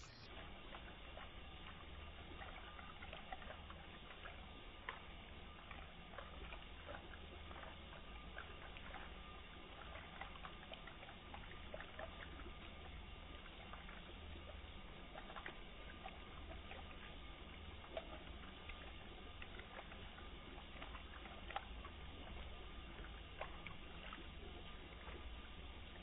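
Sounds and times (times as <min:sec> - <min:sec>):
small water drips: 0:00.1 - 0:26.0.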